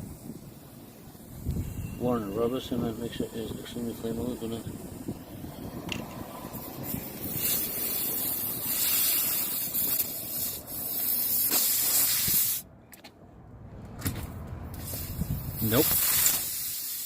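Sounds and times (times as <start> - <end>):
air hissing from punctured tire: 0.0 - 12.7, 14.0 - 17.0.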